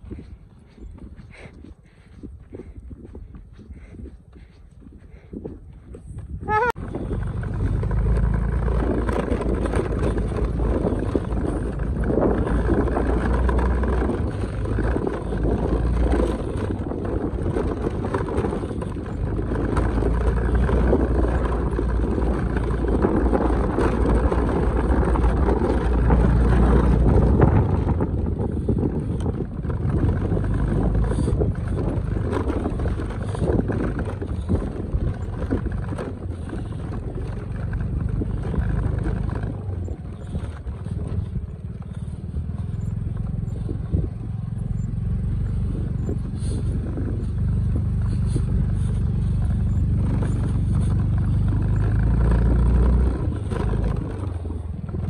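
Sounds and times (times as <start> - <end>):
motorcycle engine rumbling: 0.0 - 55.0.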